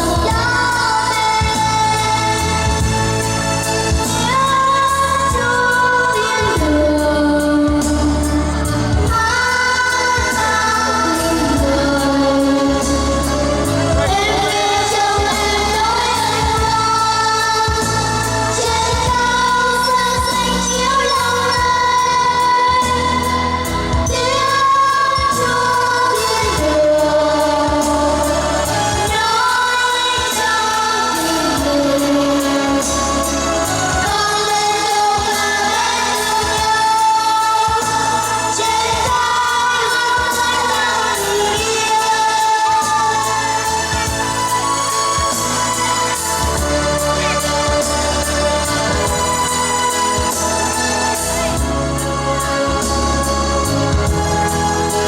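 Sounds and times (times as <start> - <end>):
person singing with vibrato: 0.0 - 55.0
pulsing bass: 0.0 - 55.0.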